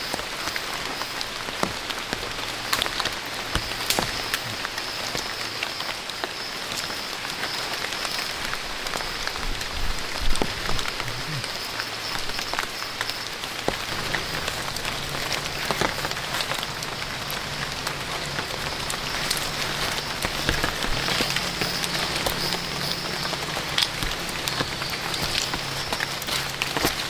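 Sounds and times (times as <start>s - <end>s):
raindrop ticks: 0.0s - 27.0s
steady rain hiss: 0.0s - 27.0s.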